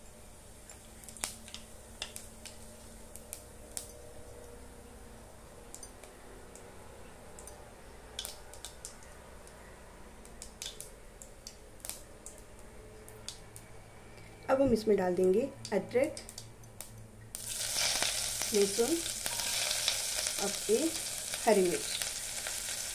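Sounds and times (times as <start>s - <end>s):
seeds crackling in hot oil: 0.0s - 4.6s, 7.3s - 14.2s, 15.0s - 22.9s.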